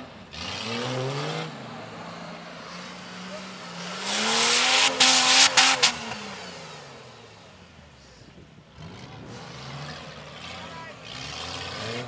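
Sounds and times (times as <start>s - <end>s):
engine revving hard: 0.2s - 7.1s, 8.8s - 12.0s.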